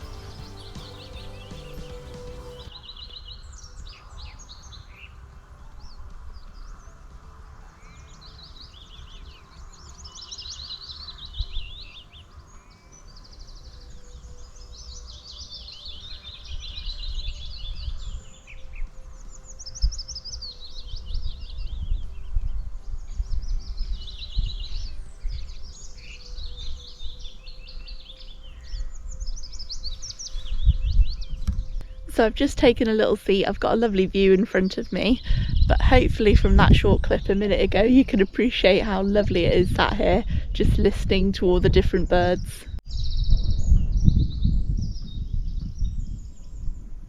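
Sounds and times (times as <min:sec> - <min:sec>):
songbirds singing: 0:00.0 - 0:47.0.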